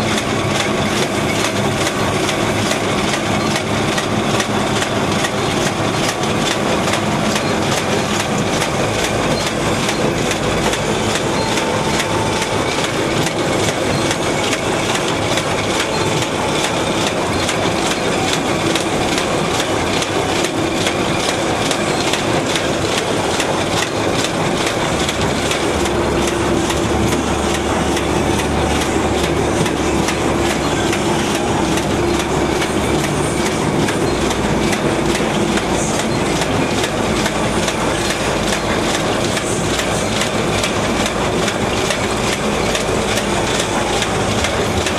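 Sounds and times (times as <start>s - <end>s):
wrapping machine clatter: 0.0s - 44.9s.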